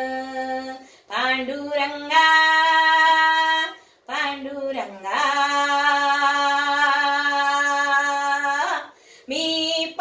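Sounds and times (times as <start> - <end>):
woman singing: 0.0 - 10.0.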